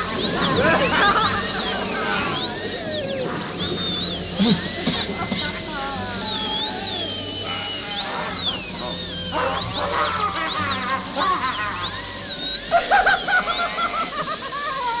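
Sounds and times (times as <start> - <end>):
drill-like mechanical whine: 0.0 - 15.0
steady low hum: 0.0 - 15.0
wavering high-pitched tones: 0.0 - 15.0.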